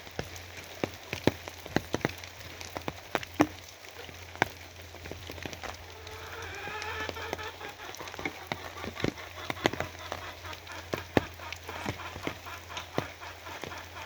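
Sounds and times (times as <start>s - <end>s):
raindrops tapping hard surface: 0.0s - 14.0s.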